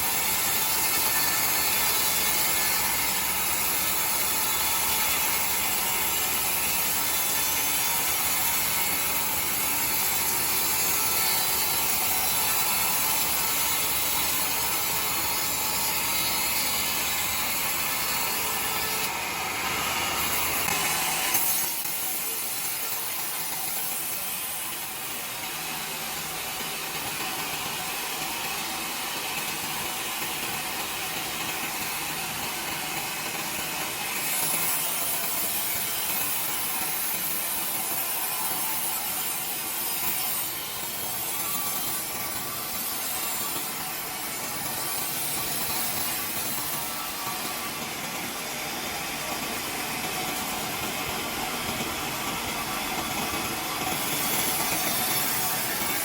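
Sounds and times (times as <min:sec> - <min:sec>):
saw cutting through timber: 0:00.0 - 0:56.0.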